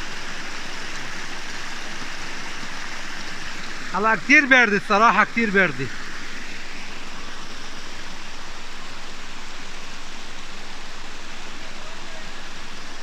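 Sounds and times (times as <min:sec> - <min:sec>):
fast-flowing river water: 0:00.0 - 0:13.0.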